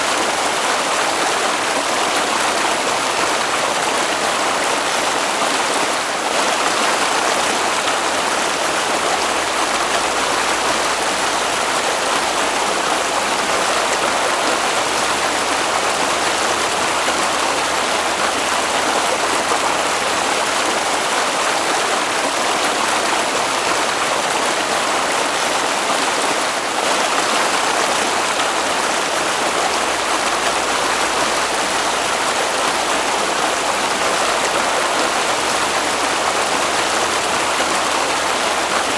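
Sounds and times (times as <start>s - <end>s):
water flowing in a stream: 0.0s - 38.9s.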